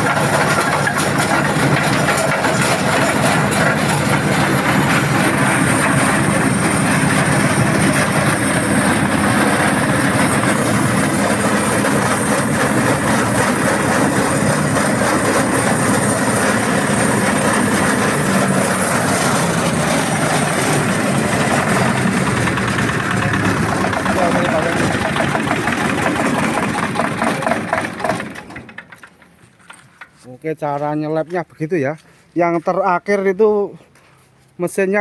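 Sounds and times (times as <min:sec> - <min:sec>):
corn sheller rushing noise: 0:00.0 - 0:29.3
diesel engine drone: 0:00.0 - 0:29.4.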